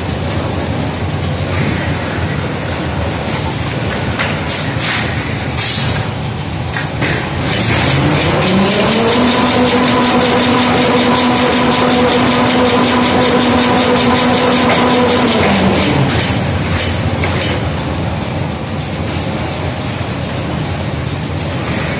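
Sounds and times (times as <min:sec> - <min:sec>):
machine drive hum: 0:00.0 - 0:21.9.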